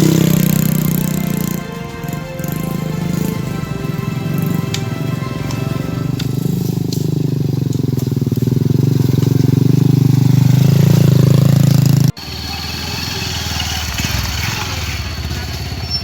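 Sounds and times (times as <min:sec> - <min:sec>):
outdoor background noise: 0:00.0 - 0:16.0
small engine running: 0:00.0 - 0:16.0.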